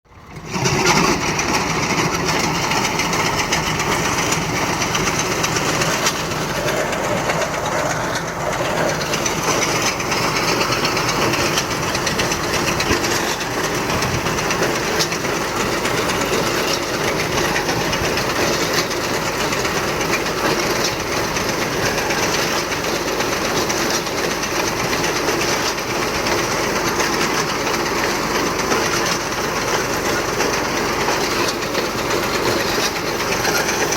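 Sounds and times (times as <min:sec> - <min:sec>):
binder mechanical clatter: 0:00.1 - 0:33.9.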